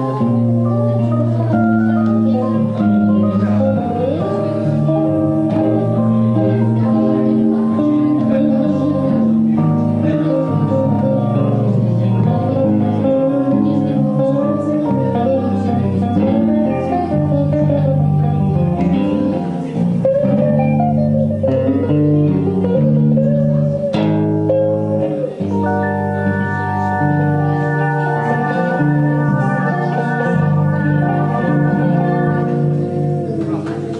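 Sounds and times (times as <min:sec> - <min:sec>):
electric guitar lead notes: 0:00.0 - 0:33.9
keyboard playing: 0:00.0 - 0:33.9.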